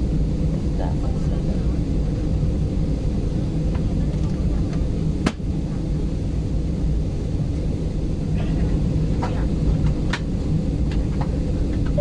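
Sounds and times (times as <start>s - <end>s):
airliner engines rumbling in cabin: 0.0s - 12.0s.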